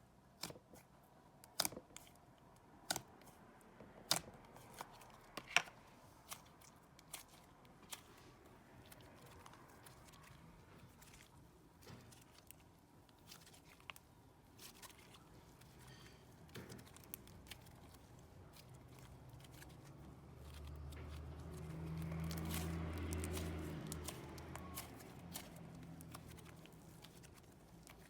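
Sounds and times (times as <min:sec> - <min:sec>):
slime sticky clicks and crackles: 0:01.4 - 0:05.6, 0:08.8 - 0:28.0.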